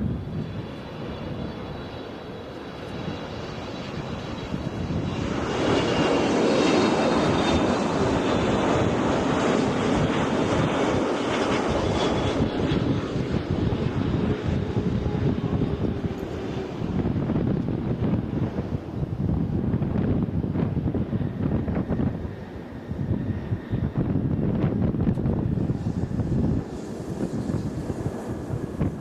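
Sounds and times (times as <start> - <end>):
jet airliner engine rush: 0.0 - 29.0
wind buffeting microphone: 0.0 - 29.0.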